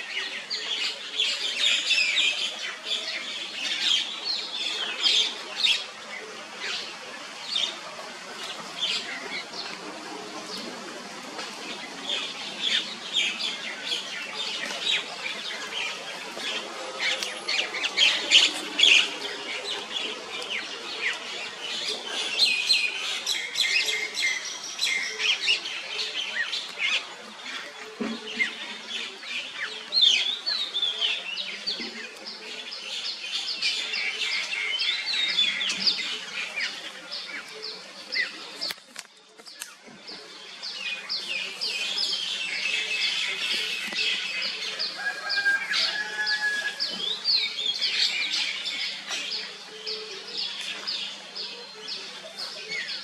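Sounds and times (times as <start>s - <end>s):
birds chirping and calling: 0.0s - 53.0s.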